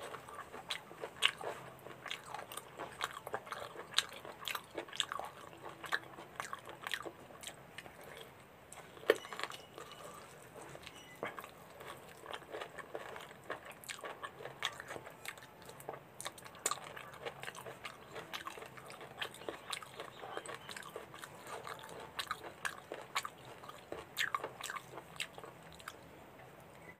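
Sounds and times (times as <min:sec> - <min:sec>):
person chewing and smacking: 0:00.0 - 0:26.1.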